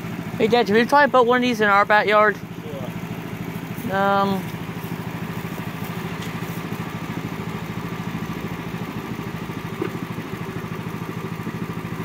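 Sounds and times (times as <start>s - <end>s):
small locomotive engine running: 0.0s - 12.0s.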